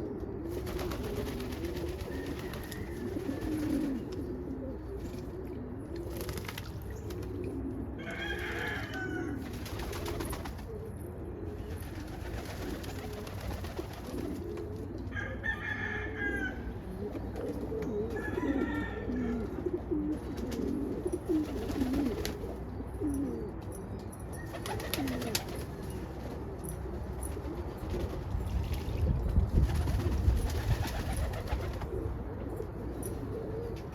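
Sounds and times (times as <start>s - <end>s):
pigeons cooing: 0.0s - 28.4s, 29.7s - 33.9s.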